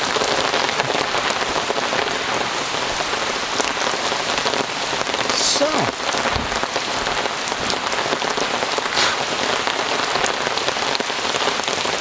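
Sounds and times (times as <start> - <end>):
heavy rain hissing: 0.0 - 12.0
raindrop ticks: 0.0 - 12.0.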